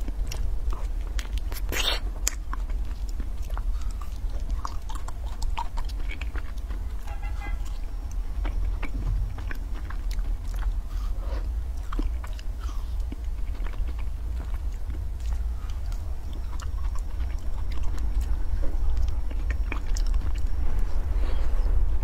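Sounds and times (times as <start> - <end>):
biting and chewing ice cream: 0.0 - 22.0
low hum: 2.8 - 22.0.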